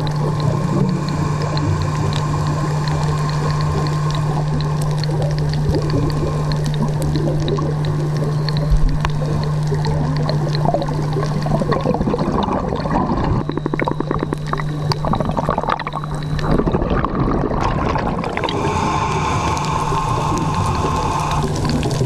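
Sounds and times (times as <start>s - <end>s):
diver exhaling bubbles underwater: 0.0s - 22.0s
steady low hum: 0.0s - 22.0s.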